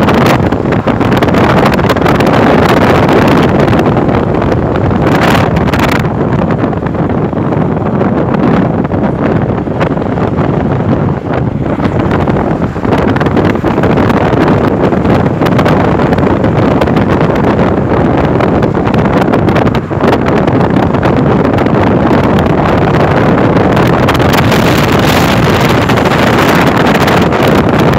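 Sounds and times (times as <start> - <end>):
car road noise: 0.0 - 27.9
wind buffeting microphone: 0.0 - 27.9.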